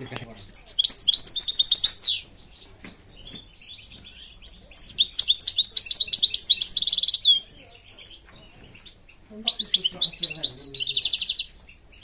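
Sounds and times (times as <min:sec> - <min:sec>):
goldfinch singing: 0:00.0 - 0:12.0.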